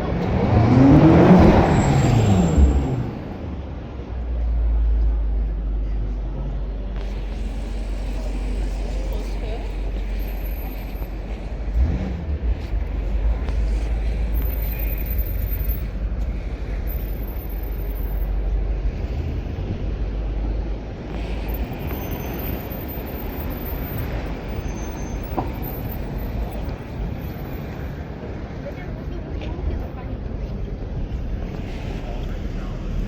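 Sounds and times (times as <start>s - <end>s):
city street noise: 0.0s - 33.0s
heavy low rumble: 0.0s - 33.0s.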